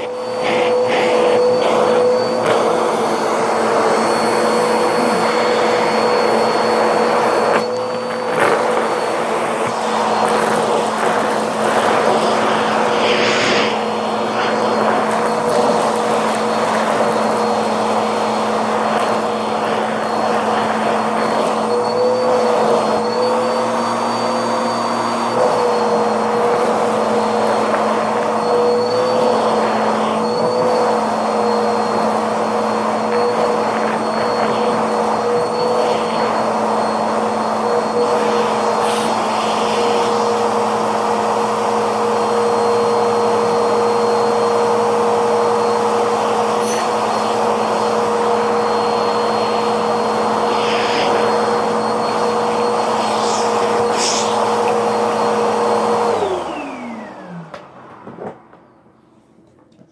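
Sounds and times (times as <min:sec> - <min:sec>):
vacuum cleaner motor whining: 0:00.0 - 0:59.1.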